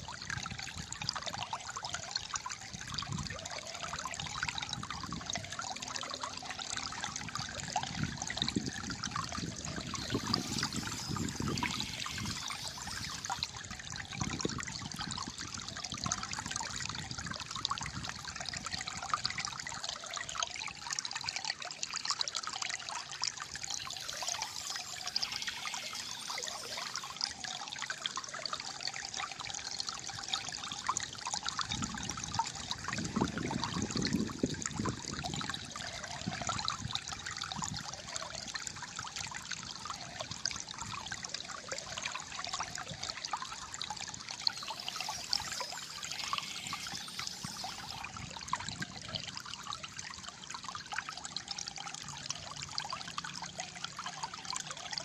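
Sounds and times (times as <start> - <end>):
stream trickling and gurgling: 0.0 - 55.0.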